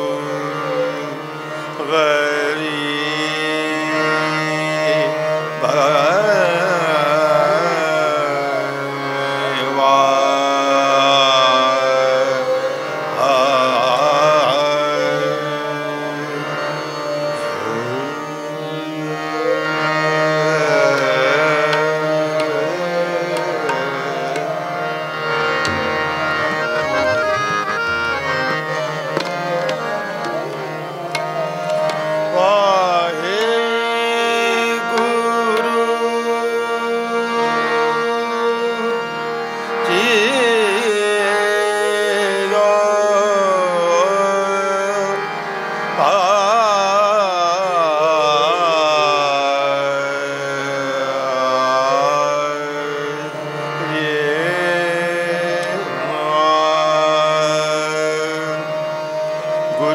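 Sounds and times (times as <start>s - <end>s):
harmonium held notes: 0.0s - 59.9s
man singing: 0.0s - 59.9s
tabla: 0.0s - 59.9s.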